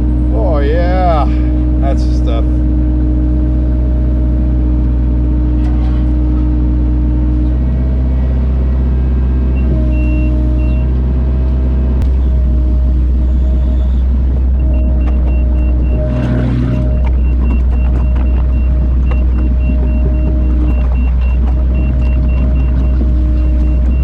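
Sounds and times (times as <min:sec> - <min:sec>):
large vehicle engine droning: 0:00.0 - 0:24.0.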